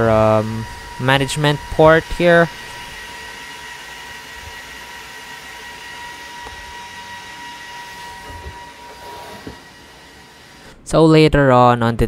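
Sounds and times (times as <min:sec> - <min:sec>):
cooling fans rushing: 0:00.0 - 0:11.1
thin high whine: 0:00.0 - 0:11.1.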